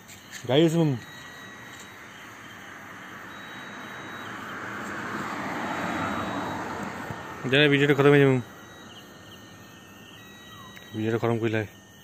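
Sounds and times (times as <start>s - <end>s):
vehicle passing: 0.6s - 10.8s.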